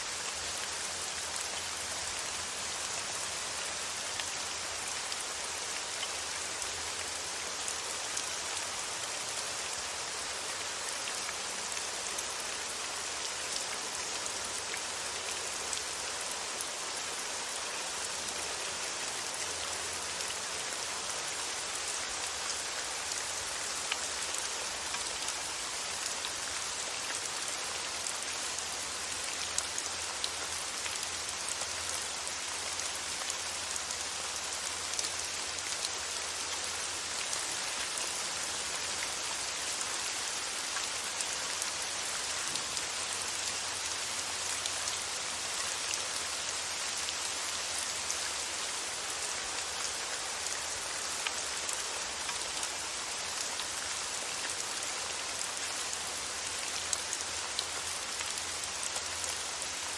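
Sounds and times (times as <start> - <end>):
rain pattering on a surface: 0.0 - 59.9.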